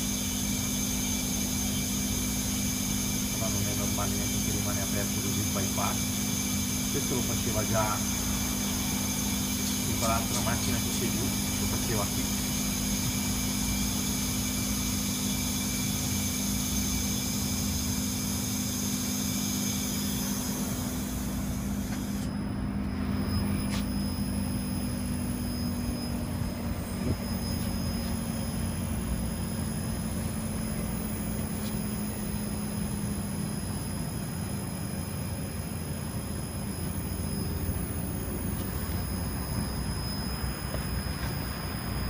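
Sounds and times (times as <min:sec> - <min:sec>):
compressor humming: 0:00.0 - 0:42.0
fan rushing: 0:00.0 - 0:42.0.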